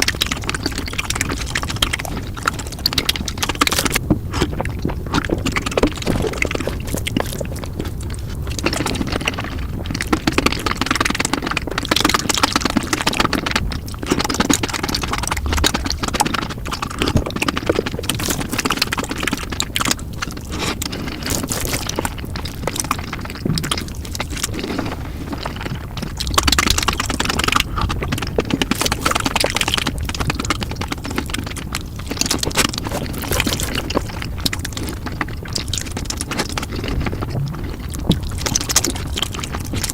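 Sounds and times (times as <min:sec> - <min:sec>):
chewing and slurping noodles: 0:00.0 - 0:39.9.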